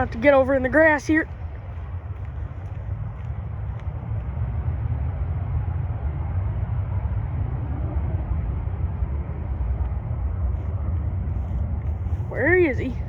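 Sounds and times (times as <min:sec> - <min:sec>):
jet engines at takeoff thrust: 0:00.0 - 0:13.0.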